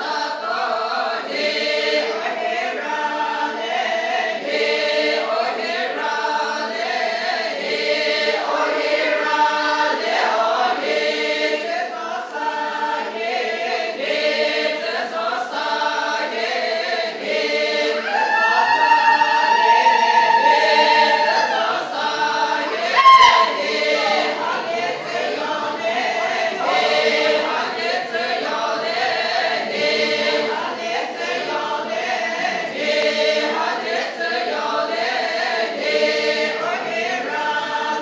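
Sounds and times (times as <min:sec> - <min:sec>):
choir singing unaccompanied: 0:00.0 - 0:38.0.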